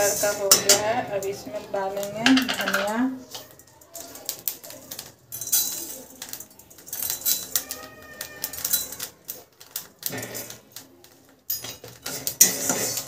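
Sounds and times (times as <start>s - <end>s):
seeds pattering on metal pan: 0.0s - 13.0s.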